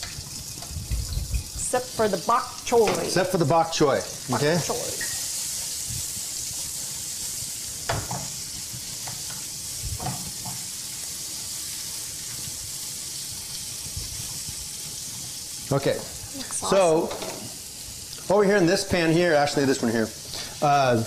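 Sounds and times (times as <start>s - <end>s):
vegetables sizzling in a skillet: 0.0s - 21.0s.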